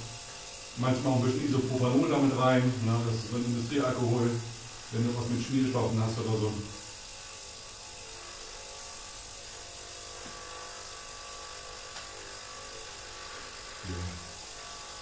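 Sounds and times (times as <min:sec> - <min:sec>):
ultrasonic cleaner buzzing: 0:00.0 - 0:15.0.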